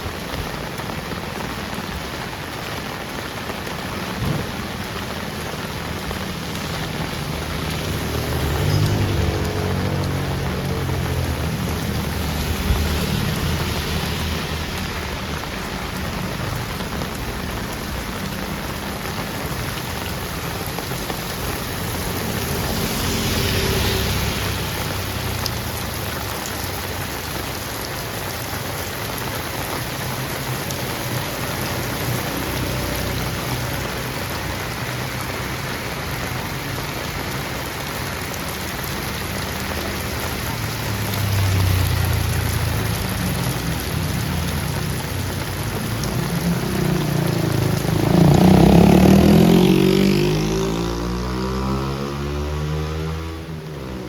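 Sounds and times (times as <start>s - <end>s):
heavy rain on street: 0.0s - 54.0s.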